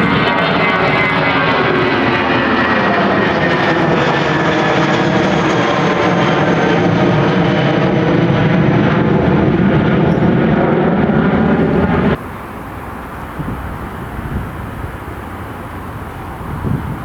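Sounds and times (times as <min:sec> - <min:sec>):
jet engines passing close: 0:00.0 - 0:17.0
outdoor wind noise: 0:00.0 - 0:17.0.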